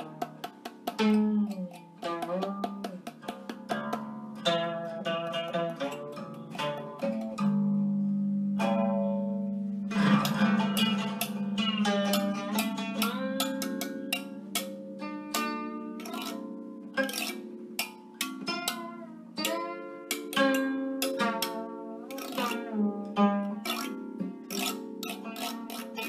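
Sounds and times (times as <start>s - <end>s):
zither plucked notes: 0.0s - 26.0s.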